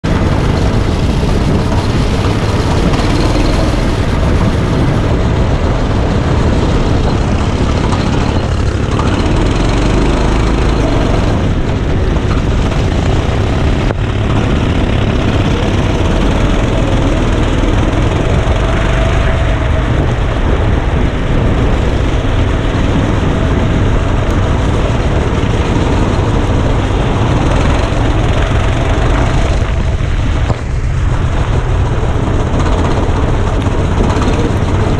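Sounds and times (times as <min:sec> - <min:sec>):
go-kart engine running: 0:00.0 - 0:34.9
rushing air: 0:00.0 - 0:34.9.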